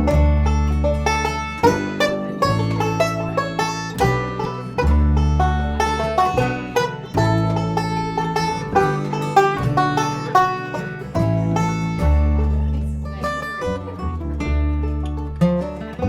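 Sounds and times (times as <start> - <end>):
banjo picking melody: 0.0 - 16.0
guitar: 0.0 - 16.0
low bass line: 0.0 - 16.0.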